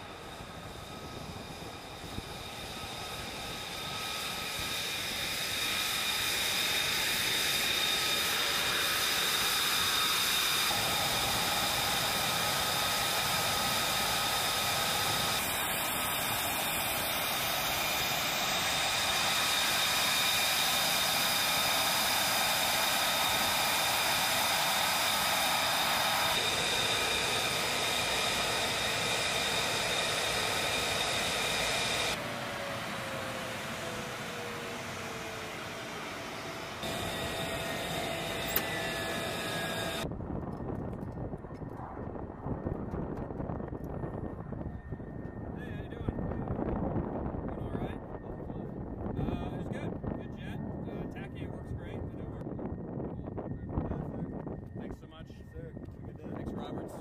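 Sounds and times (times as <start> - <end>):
jet engine turbine whine and roar: 0.0 - 57.0.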